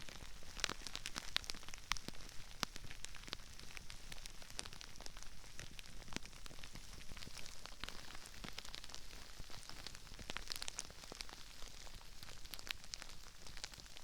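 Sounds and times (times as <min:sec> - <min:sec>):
crispy rice crackling: 0:00.0 - 0:14.0.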